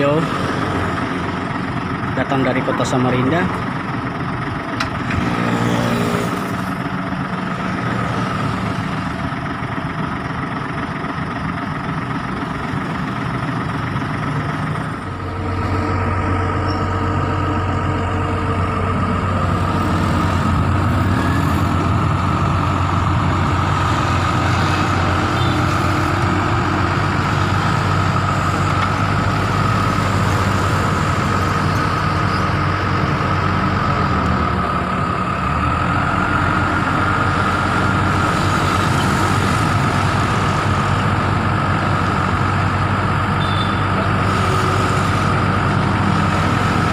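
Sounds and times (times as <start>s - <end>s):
diesel engine idling: 0.0s - 46.9s
hydraulic crane whine: 0.2s - 46.9s.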